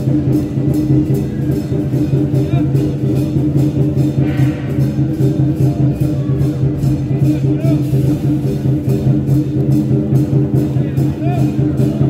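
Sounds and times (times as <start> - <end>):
quick percussive beat: 0.0 - 12.0.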